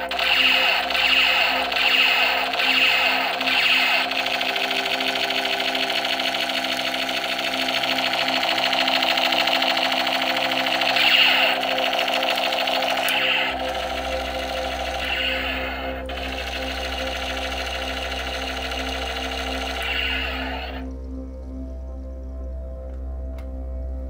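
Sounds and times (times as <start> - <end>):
toy gun electronic rattle: 0.0 - 20.9
background music: 0.0 - 24.0.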